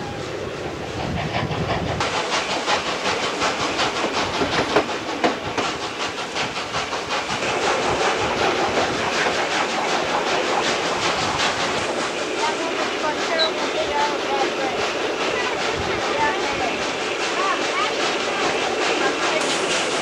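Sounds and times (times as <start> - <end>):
steam hissing: 0.0 - 20.0
steam locomotive exhaust beats: 0.0 - 20.0.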